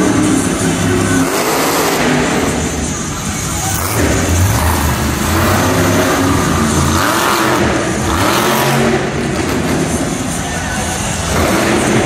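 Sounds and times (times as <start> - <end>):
monster truck engine revving hard: 0.0 - 10.3, 11.0 - 12.0.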